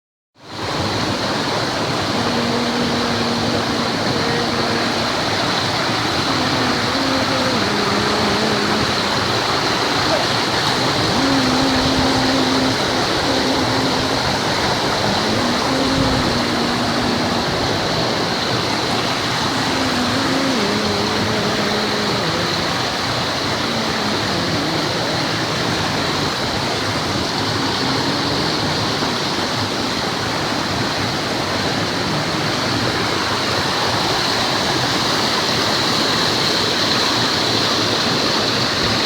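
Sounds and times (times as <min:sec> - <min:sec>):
stream rushing over rocks: 0:00.4 - 0:39.0.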